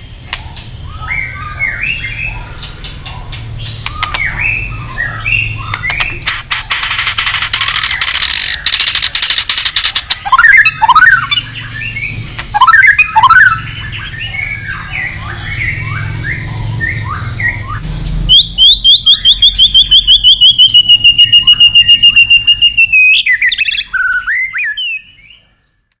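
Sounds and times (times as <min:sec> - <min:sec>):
bird singing: 0:00.0 - 0:26.0.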